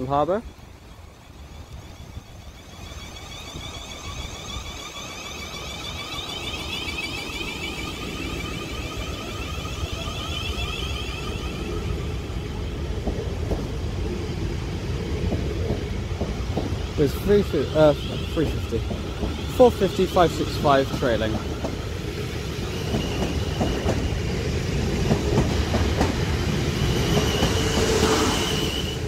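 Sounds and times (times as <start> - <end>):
train traction motors whining: 0.0 - 29.0
train wheels rumbling on rail: 0.0 - 29.0.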